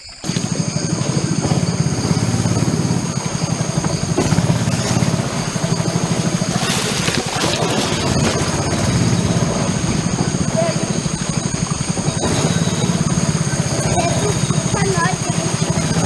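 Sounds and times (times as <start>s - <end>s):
small boat motor running: 0.0s - 16.0s.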